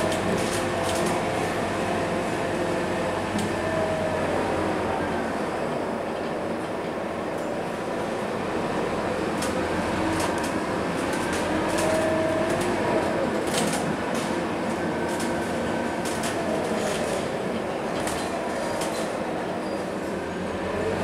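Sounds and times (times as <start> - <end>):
bus diesel engine and road noise: 0.0 - 21.0.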